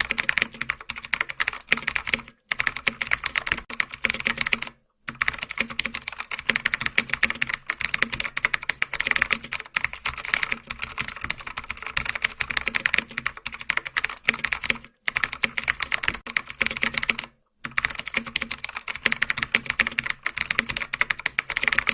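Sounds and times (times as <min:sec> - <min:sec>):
keyboard typing clicks: 0:00.0 - 0:21.9.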